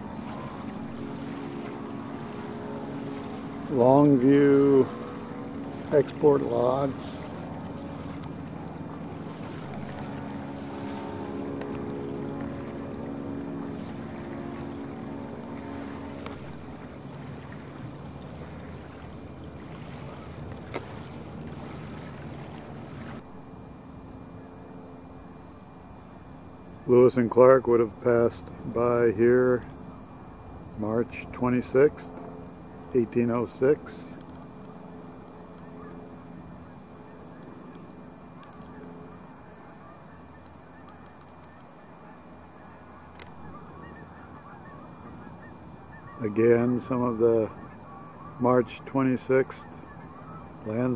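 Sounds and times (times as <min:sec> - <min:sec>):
boat engine rumbling: 0:00.0 - 0:50.9
quiet outdoor background noise: 0:00.0 - 0:50.9
steady low hum: 0:00.0 - 0:50.9
wind and water hiss: 0:00.0 - 0:50.9.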